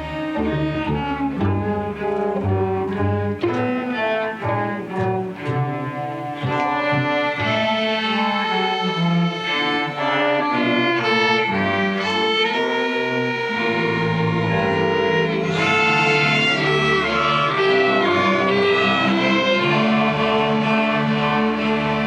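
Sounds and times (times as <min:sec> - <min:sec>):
string orchestra playing: 0:00.0 - 0:22.0.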